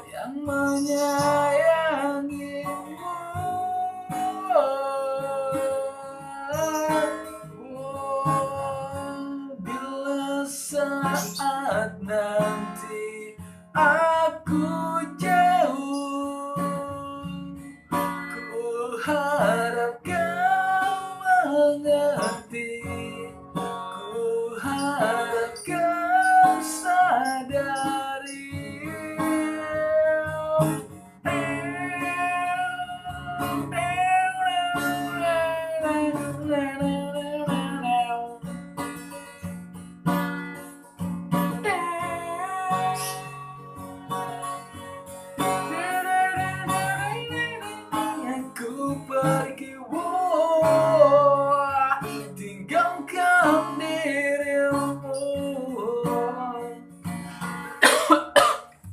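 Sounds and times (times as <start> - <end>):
person singing pop ballad: 0.0 - 17.6, 18.4 - 38.5, 41.6 - 44.4, 45.4 - 56.9
guitar accompaniment: 0.0 - 58.9.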